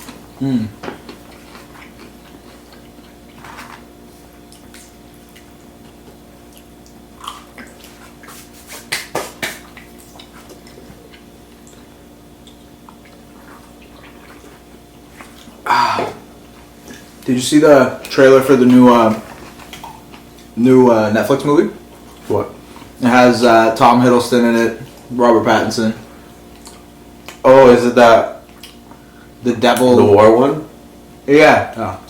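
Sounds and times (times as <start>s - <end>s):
eating and food handling: 0.0s - 30.4s
steady low hum: 0.0s - 32.0s.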